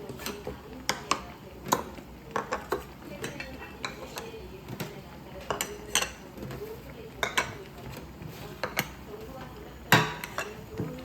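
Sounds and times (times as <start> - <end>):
dishes and cutlery clinking: 0.0 - 11.0.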